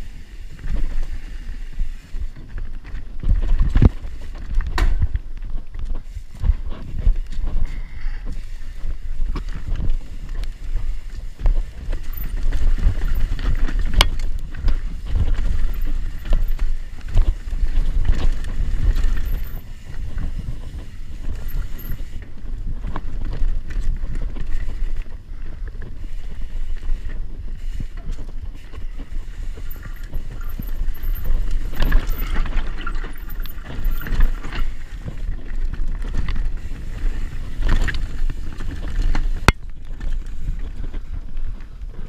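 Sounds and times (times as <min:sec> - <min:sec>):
wind rumbling on microphone: 0:00.0 - 0:42.0
bike knocks and rattles: 0:00.5 - 0:26.0, 0:27.8 - 0:42.0
tyres rolling over dirt and rock: 0:02.0 - 0:26.0, 0:28.0 - 0:42.0.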